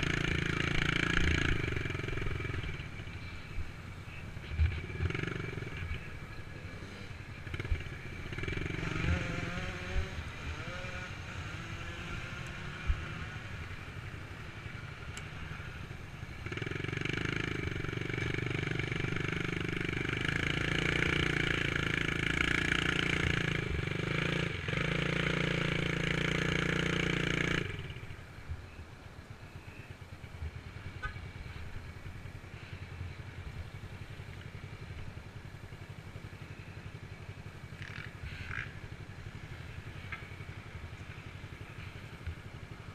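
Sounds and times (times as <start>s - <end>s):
dirt bike engine running: 0.0s - 28.2s, 29.5s - 42.9s.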